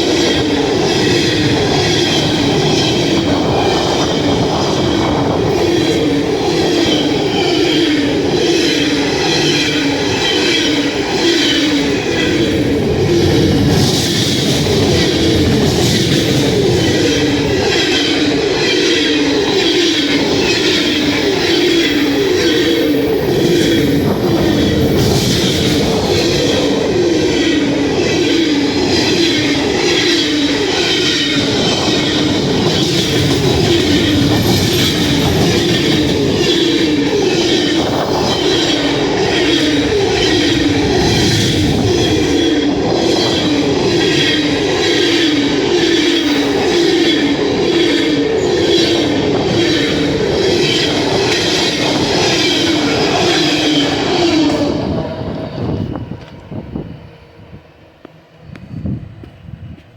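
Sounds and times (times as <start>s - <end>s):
freight train wheel and rail clatter: 0.0s - 59.9s.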